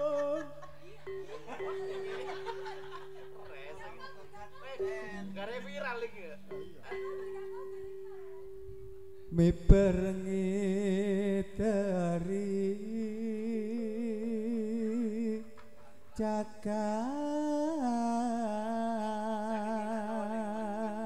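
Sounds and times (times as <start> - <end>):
man singing with vibrato: 0.0 - 21.0.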